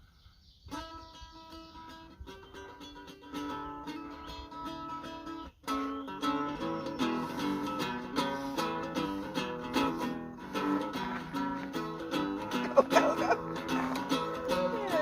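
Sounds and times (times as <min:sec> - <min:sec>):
acoustic guitar playing: 0:00.7 - 0:15.0.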